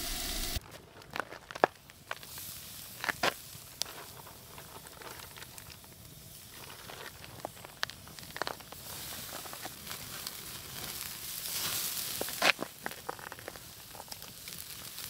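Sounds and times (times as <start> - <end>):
food sizzling in frying: 0.0 - 0.6, 2.2 - 15.0
pops and crackles: 0.6 - 15.0.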